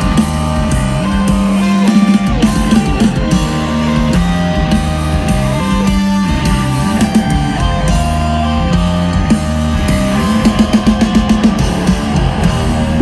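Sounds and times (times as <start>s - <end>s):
distorted electric guitars: 0.0s - 13.0s
drum kit: 0.0s - 13.0s
heavy rock band playing: 0.0s - 13.0s.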